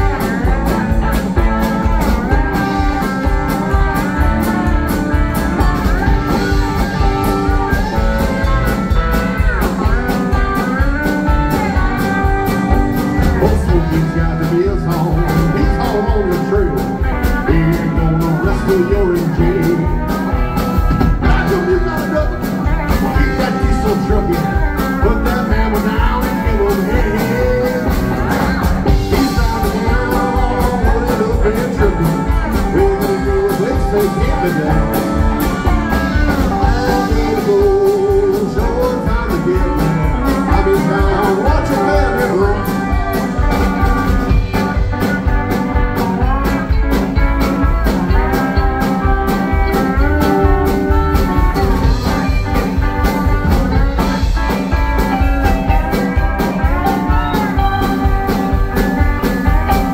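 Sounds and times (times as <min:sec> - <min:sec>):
live band playing: 0:00.0 - 0:59.9
pedal steel guitar gliding notes: 0:00.0 - 0:59.9.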